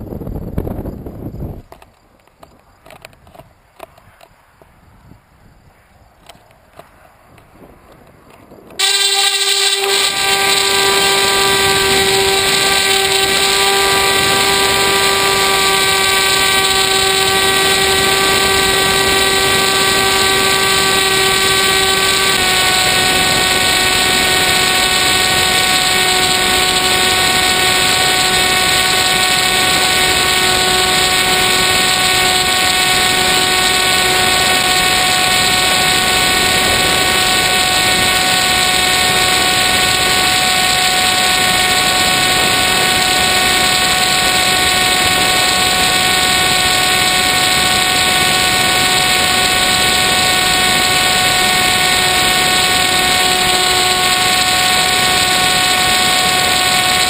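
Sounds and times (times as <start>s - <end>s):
electric motor and propeller whine: 6.2s - 57.0s.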